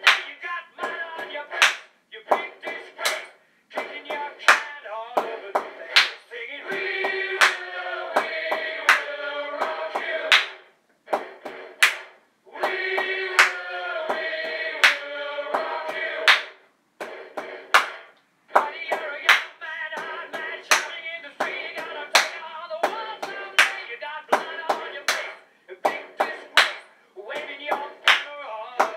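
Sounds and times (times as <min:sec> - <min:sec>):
person singing: 0:00.0 - 0:10.5, 0:12.5 - 0:16.5, 0:18.6 - 0:28.9
hand claps: 0:00.0 - 0:28.9.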